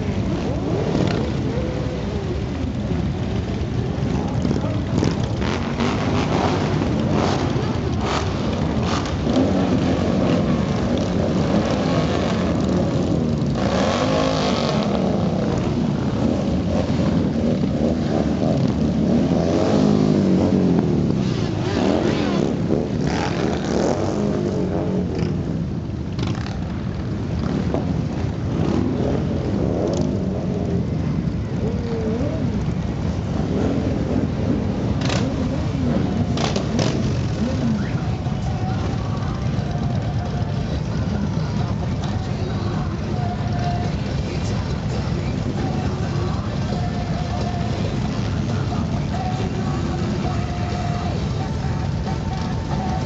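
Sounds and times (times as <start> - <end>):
motorcycles riding past: 0.0 - 53.0.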